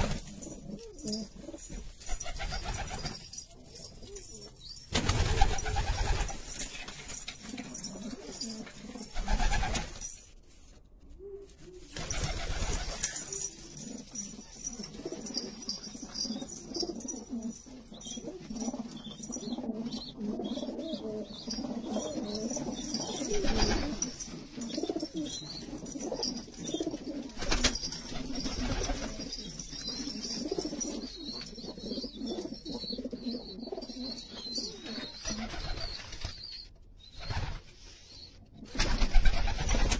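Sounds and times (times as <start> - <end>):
pigeons cooing: 0.0 - 6.3, 7.4 - 10.1, 11.2 - 35.9.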